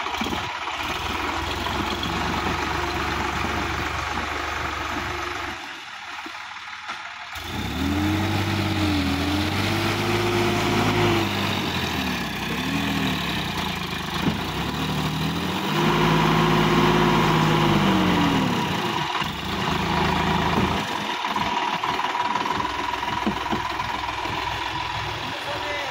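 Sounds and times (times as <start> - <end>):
tractor diesel engine revving: 0.0 - 25.9.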